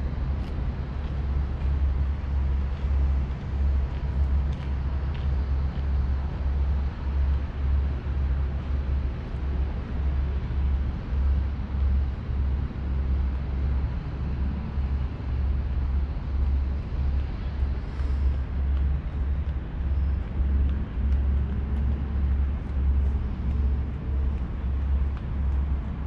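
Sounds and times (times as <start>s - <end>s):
pulsing low rumble: 0.0s - 26.0s
road traffic noise: 0.0s - 26.0s.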